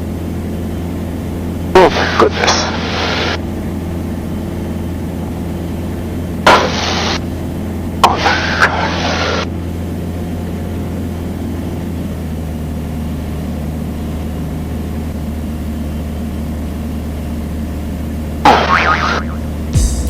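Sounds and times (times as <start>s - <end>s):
propeller plane engine droning: 0.0s - 19.8s.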